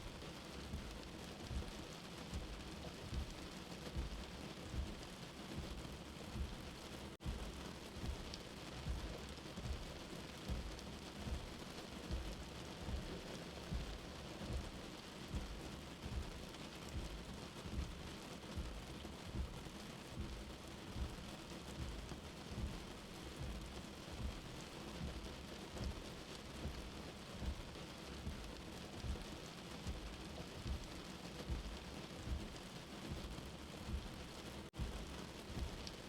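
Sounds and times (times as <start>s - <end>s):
rain heard from indoors: 0.0s - 36.0s
soft low heartbeat: 0.0s - 36.0s.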